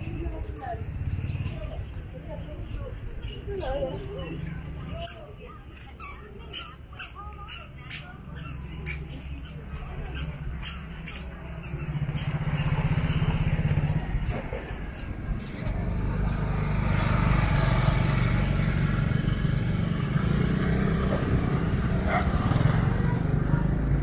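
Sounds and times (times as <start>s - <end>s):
small motorcycles passing by: 0.0s - 24.0s.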